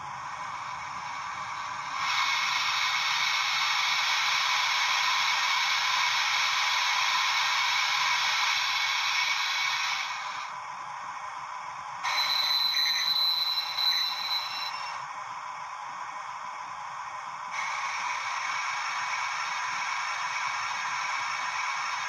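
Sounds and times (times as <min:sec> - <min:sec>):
model train steam hiss effect: 0:00.0 - 0:10.6, 0:12.0 - 0:15.0, 0:17.4 - 0:22.0.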